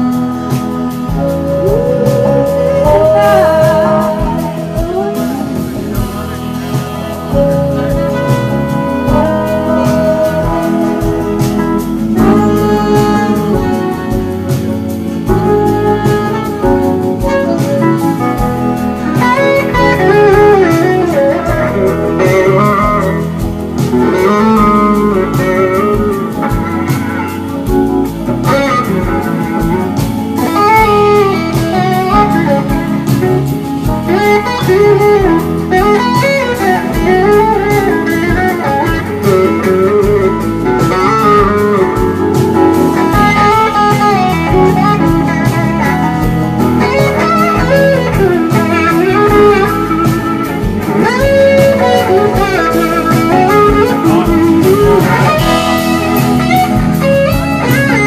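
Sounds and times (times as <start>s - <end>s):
electric guitar solo: 0.0s - 58.0s
live blues band playing: 0.0s - 58.0s.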